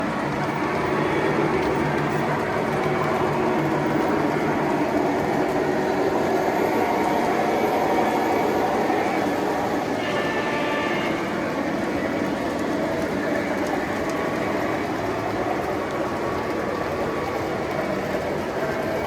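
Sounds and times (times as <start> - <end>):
model train wheels clicking on track: 0.0 - 19.0.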